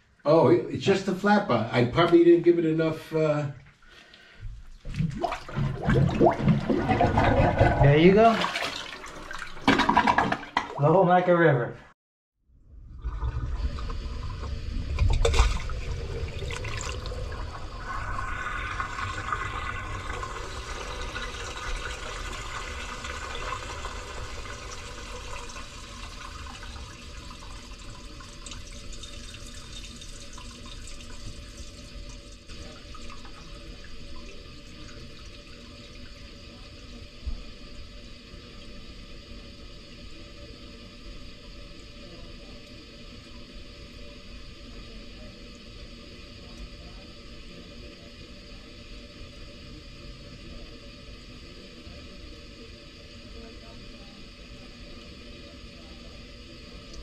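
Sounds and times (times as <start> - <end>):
waste water rushing through pipe: 4.2 - 11.0, 12.6 - 57.0.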